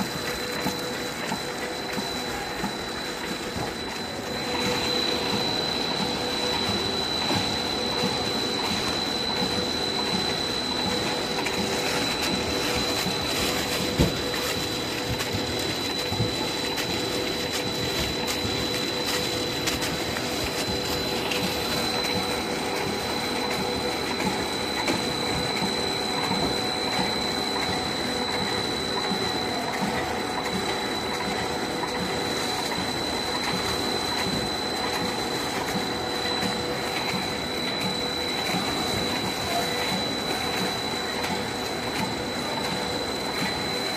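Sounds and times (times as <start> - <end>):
packing machine running: 0.0 - 43.9.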